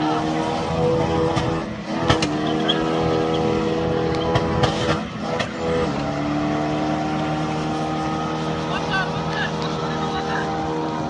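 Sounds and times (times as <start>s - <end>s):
engine running at high revs: 0.0s - 11.0s.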